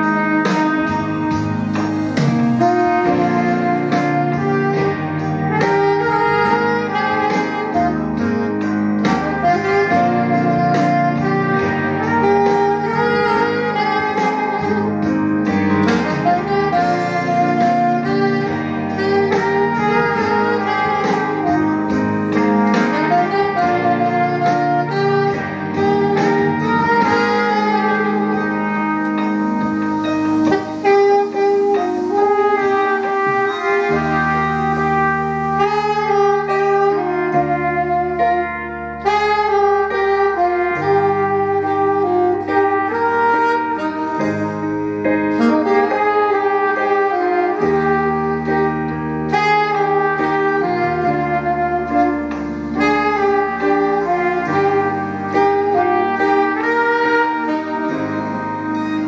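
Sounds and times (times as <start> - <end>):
backing beat: 0.0 - 59.0
saxophone melody: 0.0 - 59.0.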